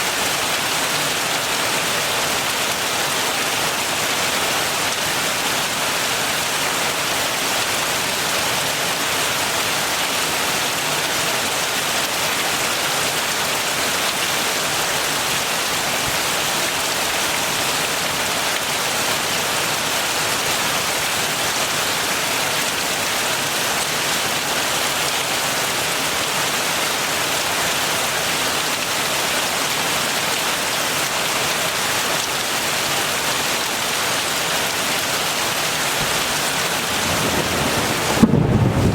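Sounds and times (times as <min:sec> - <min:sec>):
heavy rain pattering: 0:00.1 - 0:38.9.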